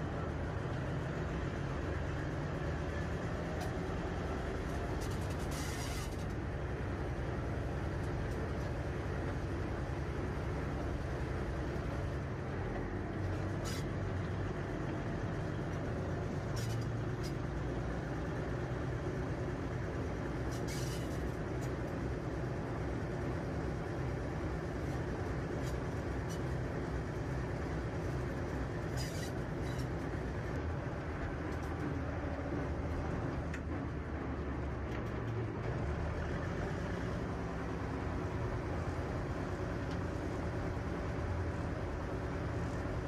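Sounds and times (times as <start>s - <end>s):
diesel locomotive engine rumble: 0.0s - 43.0s.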